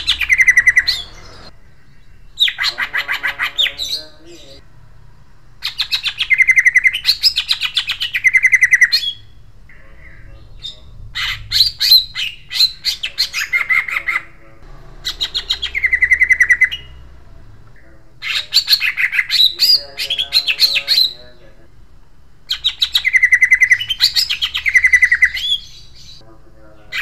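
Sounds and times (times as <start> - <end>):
bird singing trills: 0.0 - 4.6, 5.2 - 21.3, 22.5 - 26.2.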